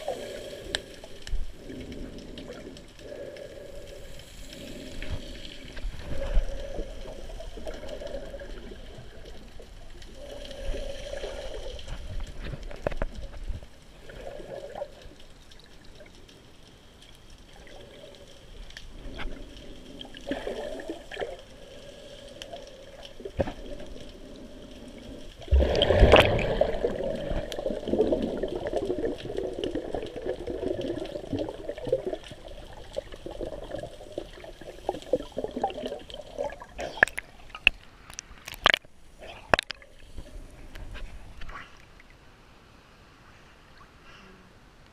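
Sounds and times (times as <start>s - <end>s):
muffled underwater sloshing: 0.0s - 42.2s.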